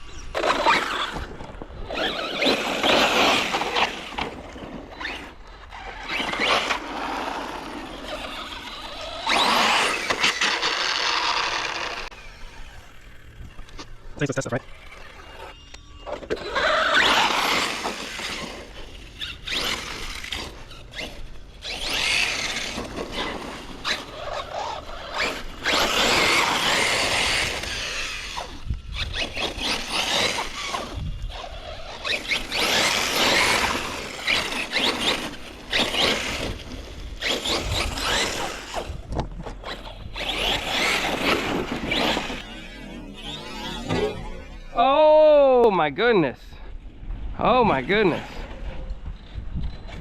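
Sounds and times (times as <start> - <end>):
electric motor whine: 0.0 - 44.8.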